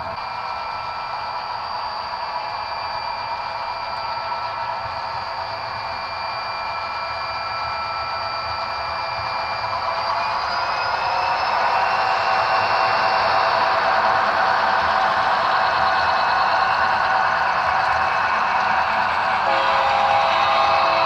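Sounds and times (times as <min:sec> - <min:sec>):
model locomotive whine: 0:00.0 - 0:21.0.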